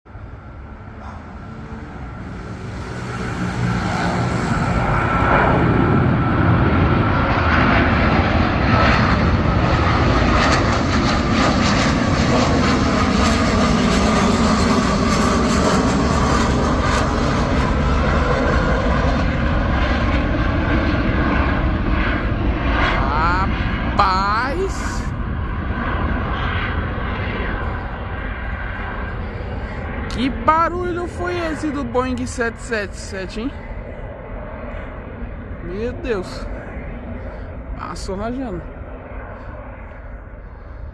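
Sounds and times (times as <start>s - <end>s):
jet engines roaring with whine: 0.1s - 40.9s.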